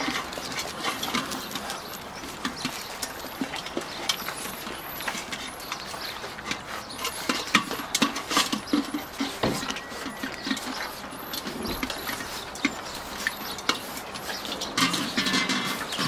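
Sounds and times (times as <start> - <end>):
metal pans clinking and scraping: 0.0 - 16.0
paws on paving: 0.0 - 16.0
puppies chewing: 0.0 - 16.0.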